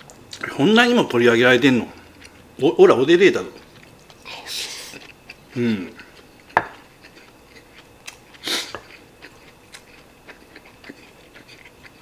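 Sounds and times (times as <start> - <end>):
man chewing food: 0.0 - 2.6, 3.3 - 12.0.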